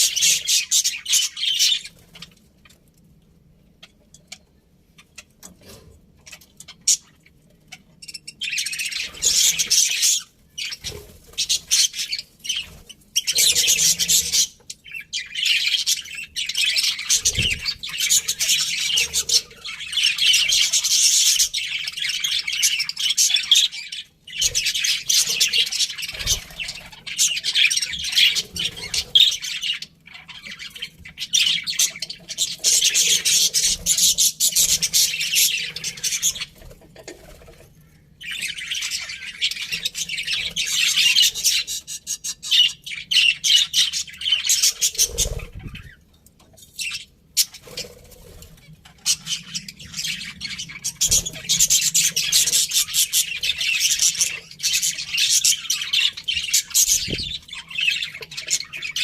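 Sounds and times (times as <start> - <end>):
budgerigars chirping and chattering: 0.0 - 2.8, 3.7 - 59.0.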